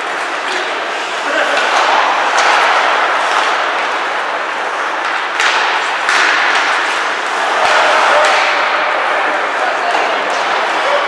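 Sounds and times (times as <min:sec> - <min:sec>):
hockey sticks and puck knocking: 0:00.0 - 0:11.0
rink noise from skating and spectators: 0:00.0 - 0:11.0.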